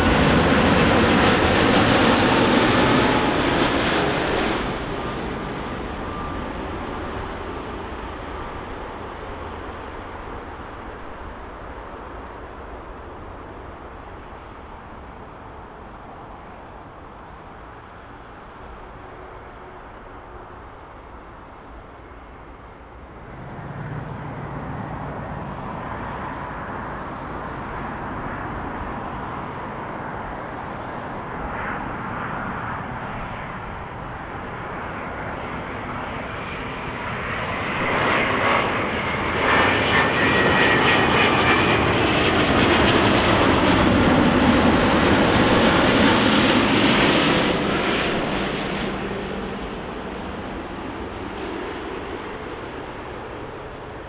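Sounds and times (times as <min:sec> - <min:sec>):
jet airliner engine: 0:00.0 - 0:54.0.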